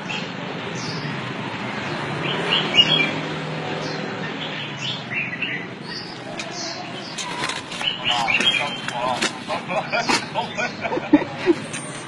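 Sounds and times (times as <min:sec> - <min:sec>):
small birds chirping: 0:00.0 - 0:11.6.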